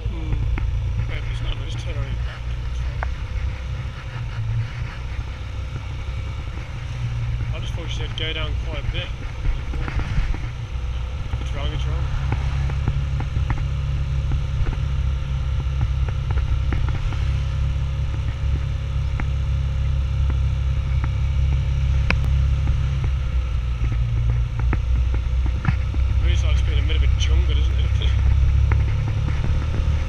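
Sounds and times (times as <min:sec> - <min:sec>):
vehicle rumbling along road: 0:00.0 - 0:30.0.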